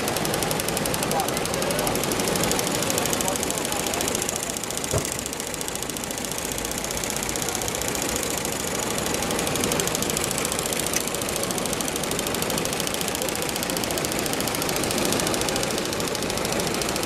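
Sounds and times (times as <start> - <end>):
embroidery machine stitching: 0.0 - 17.0.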